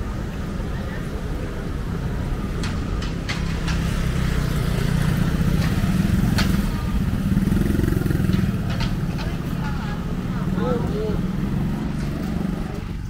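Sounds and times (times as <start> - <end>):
motorcycle engines running: 0.0 - 13.0
street traffic: 0.0 - 13.0.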